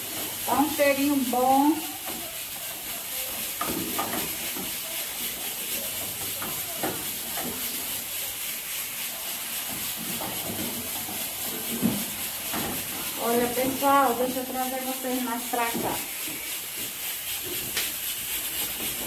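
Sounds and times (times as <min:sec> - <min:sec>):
greens sizzling in oil: 0:00.0 - 0:19.0
wooden spoon scraping pan: 0:00.0 - 0:19.0.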